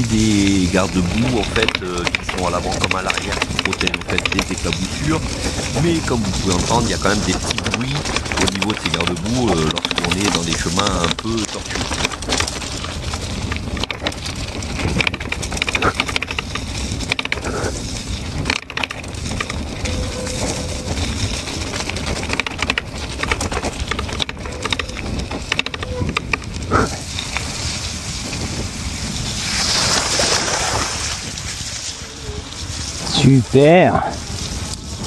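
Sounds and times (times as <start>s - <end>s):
bike tyres crunching on gravel: 0.0s - 35.0s
mudguards rattling: 0.0s - 35.0s.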